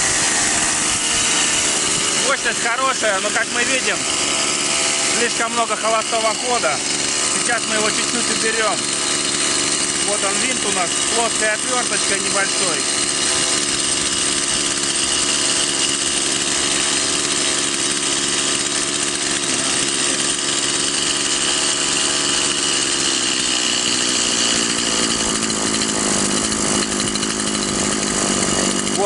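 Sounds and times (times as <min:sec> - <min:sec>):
chainsaw engine idling: 0:00.0 - 0:29.0.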